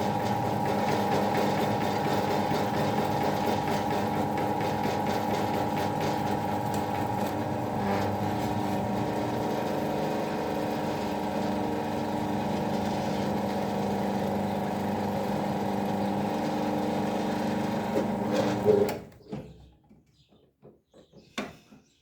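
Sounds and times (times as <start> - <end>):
workshop machine motor humming: 0.0 - 19.1.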